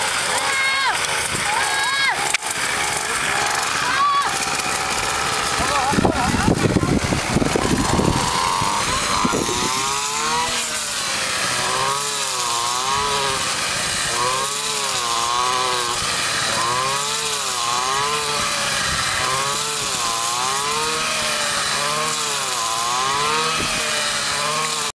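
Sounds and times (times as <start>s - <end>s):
brush cutter engine: 0.0s - 24.9s.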